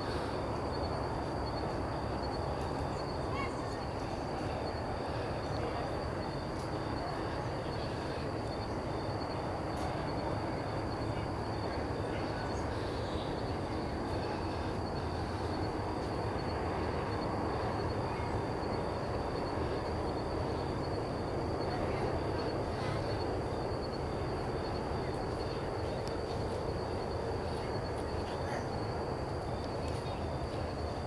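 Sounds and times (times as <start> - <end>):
low outdoor background noise: 0.0 - 31.0
pulsing insect trill: 0.0 - 31.0.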